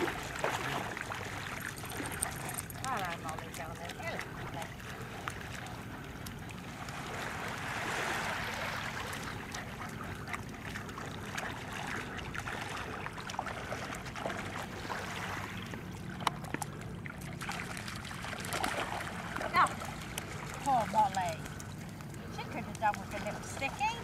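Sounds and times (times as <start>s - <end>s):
dogs splashing in shallow water: 0.0s - 24.0s
water washing: 0.0s - 24.0s.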